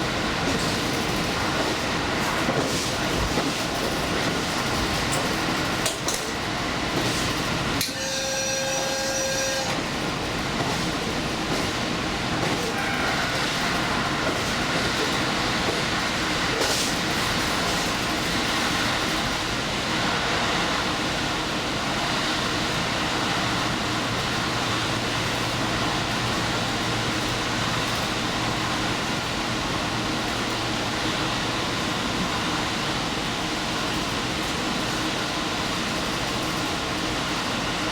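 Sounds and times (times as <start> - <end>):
train wheels rumbling: 0.0 - 37.9.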